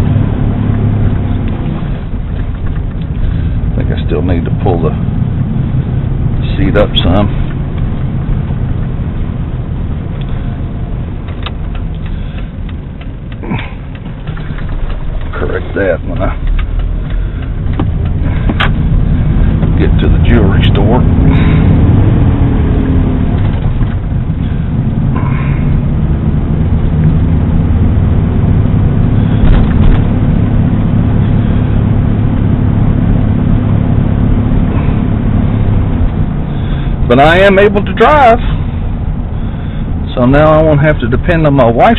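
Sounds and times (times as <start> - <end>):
truck engine and road noise: 0.0 - 41.9.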